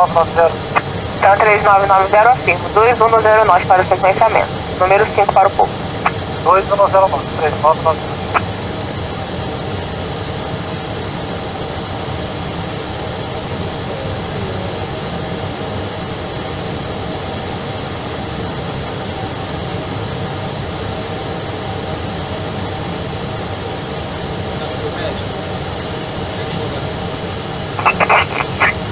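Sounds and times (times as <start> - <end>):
airliner cabin noise: 0.0 - 28.9.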